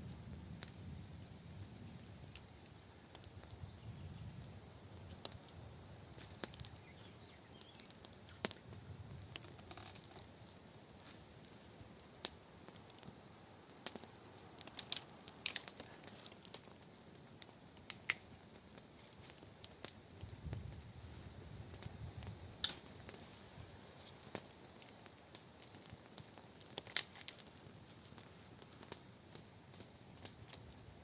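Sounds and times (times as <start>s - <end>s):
faint steady background noise: 0.0s - 31.0s.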